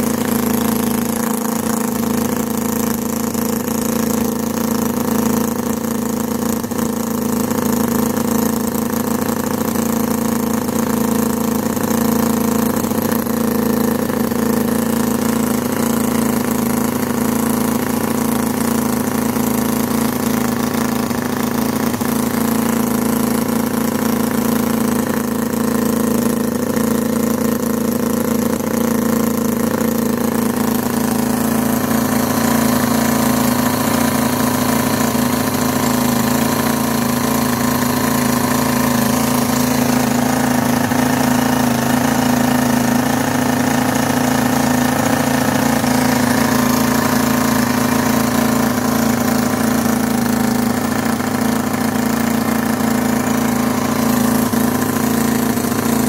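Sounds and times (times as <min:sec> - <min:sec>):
model engine running steadily: 0:00.0 - 0:56.0.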